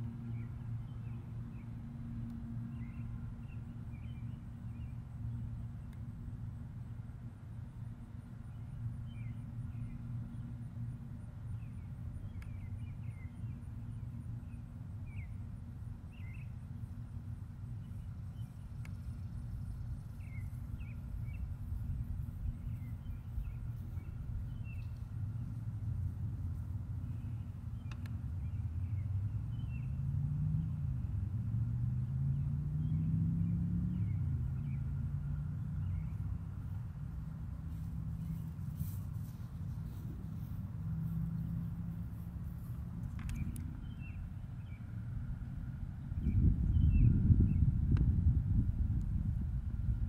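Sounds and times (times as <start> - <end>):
lawn mower engines droning: 0.0 - 50.0
birds chirping: 2.5 - 6.1, 8.4 - 30.0, 32.3 - 47.8.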